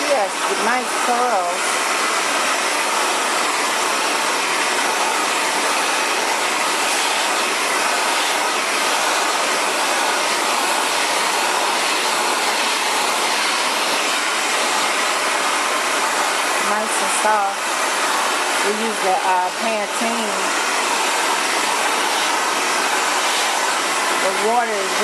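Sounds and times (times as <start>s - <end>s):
hair dryer blowing: 0.0s - 25.0s.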